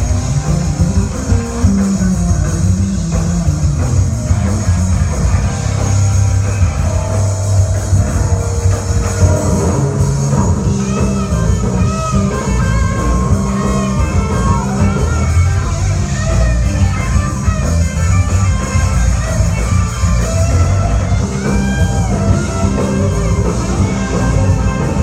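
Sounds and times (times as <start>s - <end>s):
electric guitar bending lead lines: 0.0s - 25.0s
rock music: 0.0s - 25.0s.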